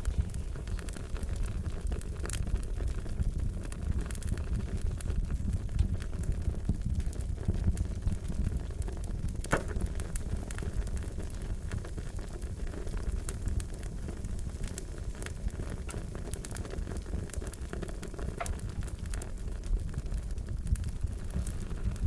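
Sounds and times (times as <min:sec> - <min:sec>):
low rumble of flame: 0:00.0 - 0:22.0
wood fire crackling and popping: 0:00.0 - 0:22.0.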